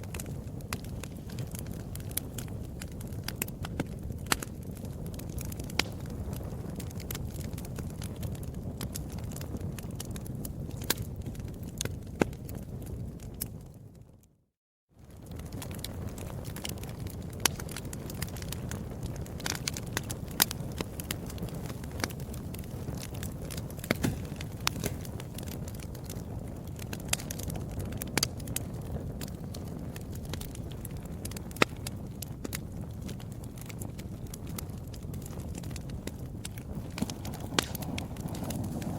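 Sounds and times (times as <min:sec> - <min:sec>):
wood fire crackling: 0:00.0 - 0:14.3, 0:15.0 - 0:38.9.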